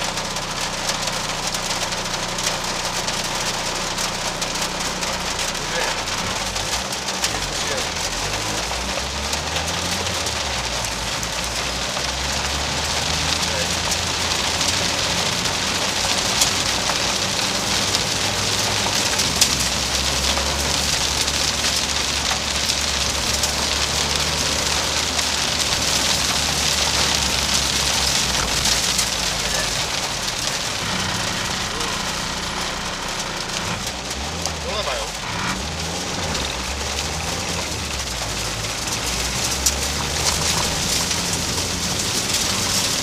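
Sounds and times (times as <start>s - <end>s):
low engine drone: 0.0s - 43.0s.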